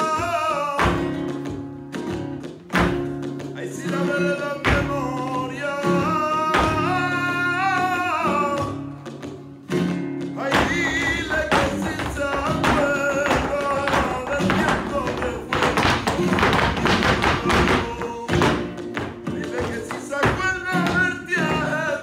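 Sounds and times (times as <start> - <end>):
guitar: 0.0 - 22.0
person singing flamenco: 0.0 - 22.0.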